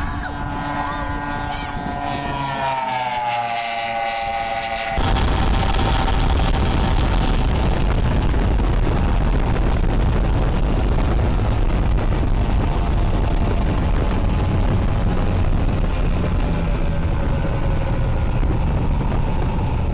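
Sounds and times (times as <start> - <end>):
faint engine drone: 0.0 - 19.9
wind buffeting microphone: 0.0 - 19.9.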